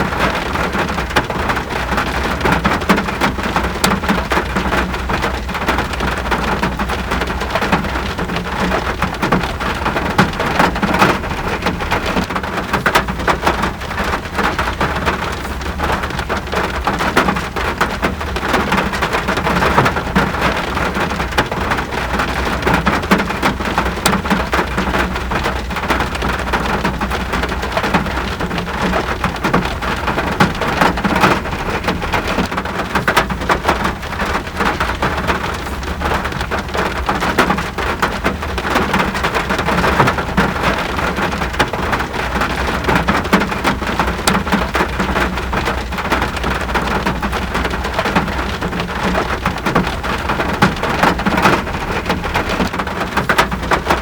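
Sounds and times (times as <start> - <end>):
constant low rumble: 0.0 - 54.0
steady rain falling: 0.0 - 54.0.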